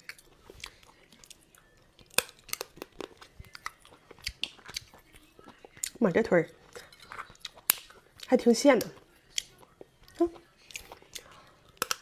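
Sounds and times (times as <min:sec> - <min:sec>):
crab shell cracking: 0:00.0 - 0:12.0
crunching and chewing: 0:00.0 - 0:12.0.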